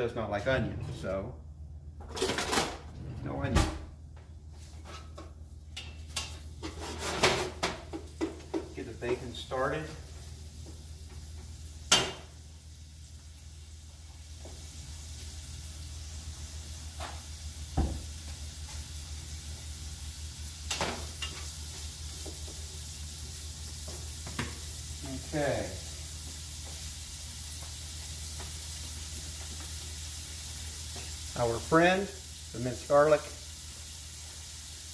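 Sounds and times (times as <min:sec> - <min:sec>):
bacon sizzling in a pot: 0:04.6 - 0:34.9.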